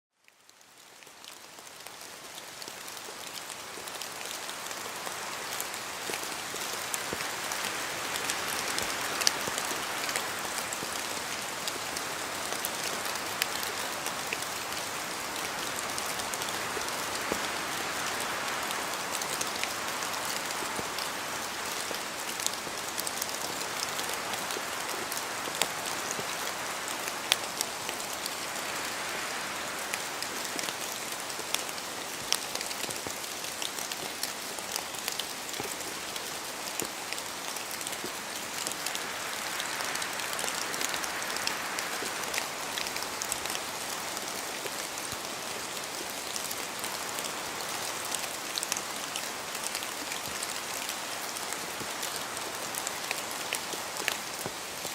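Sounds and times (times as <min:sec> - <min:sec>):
rain falling in forest: 0:00.1 - 0:54.9.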